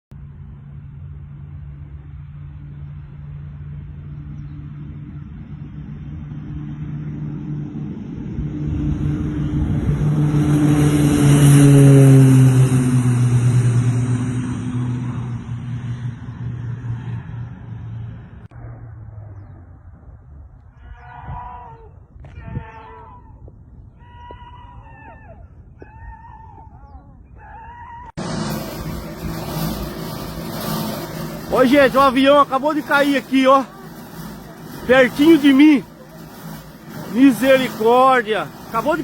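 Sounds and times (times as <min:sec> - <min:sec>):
airplane engine passing low: 0:00.1 - 0:21.0, 0:27.7 - 0:39.0.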